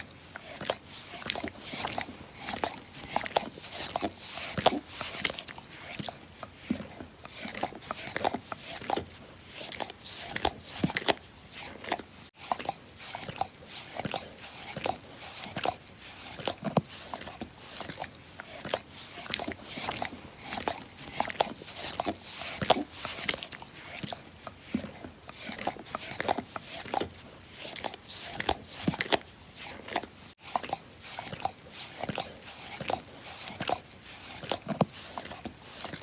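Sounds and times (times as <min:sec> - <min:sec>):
dog licking: 0:00.0 - 0:36.0.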